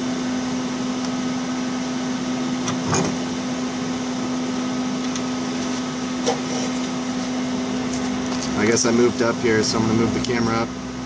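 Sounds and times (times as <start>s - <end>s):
mechanical hum of shop equipment: 0.0s - 11.0s.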